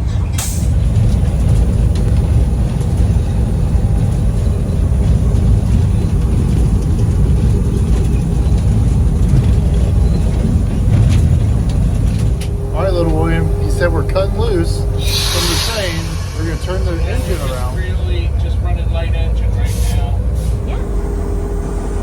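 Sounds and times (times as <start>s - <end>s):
locomotive cab rumble: 0.0s - 22.0s.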